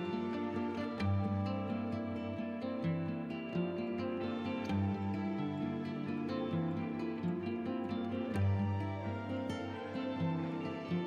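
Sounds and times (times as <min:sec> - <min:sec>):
instrumental music with plucked strings: 0:00.0 - 0:11.0.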